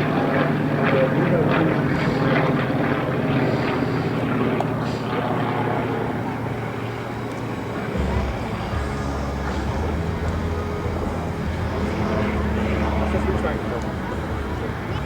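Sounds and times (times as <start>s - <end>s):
radial aircraft engine in flight: 0.0s - 15.0s.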